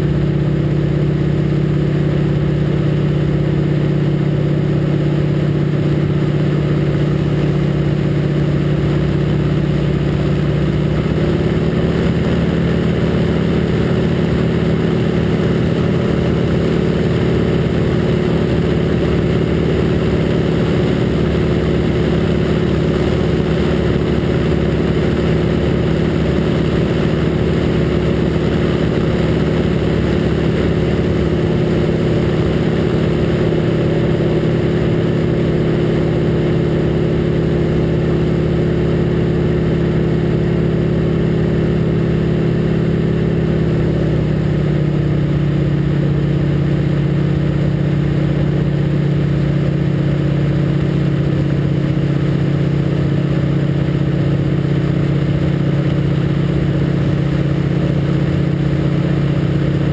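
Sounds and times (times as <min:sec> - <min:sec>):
radial aircraft engine running: 0:00.0 - 0:59.9.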